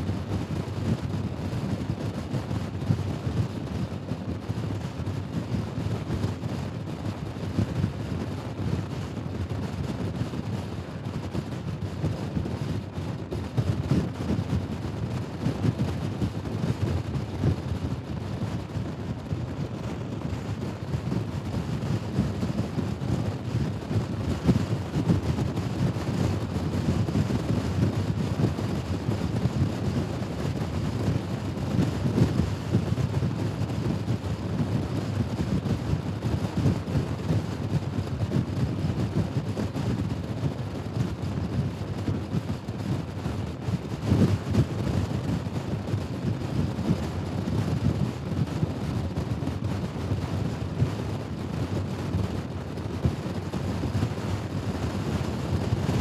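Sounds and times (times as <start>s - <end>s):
wind on microphone: 0.0s - 37.4s, 44.1s - 56.0s.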